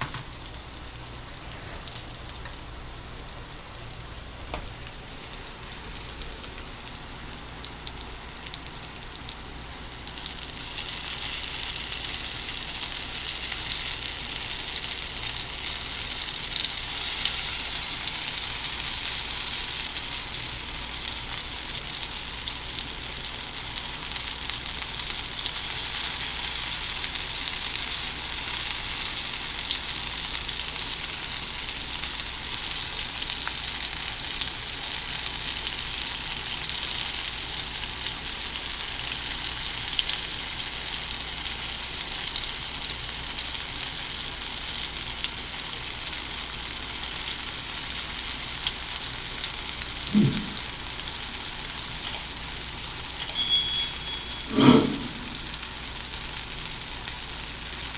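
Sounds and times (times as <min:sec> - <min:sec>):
food sizzling in hot oil: 0:00.0 - 0:57.9.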